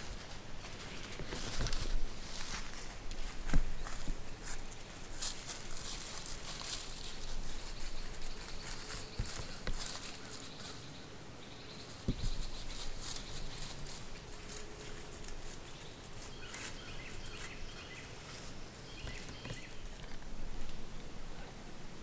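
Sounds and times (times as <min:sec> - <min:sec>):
rustling and crackling: 0:00.0 - 0:11.0, 0:11.7 - 0:21.5.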